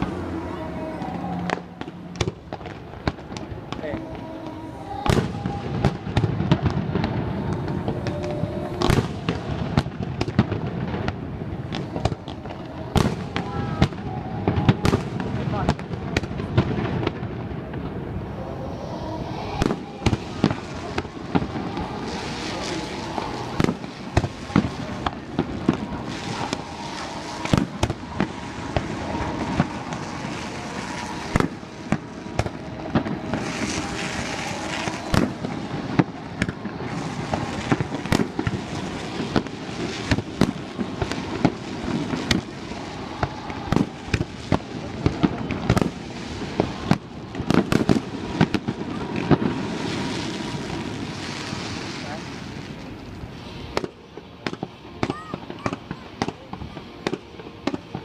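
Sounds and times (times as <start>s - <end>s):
fireworks bangs: 0.0s - 58.0s
hissing crackle: 0.0s - 58.0s.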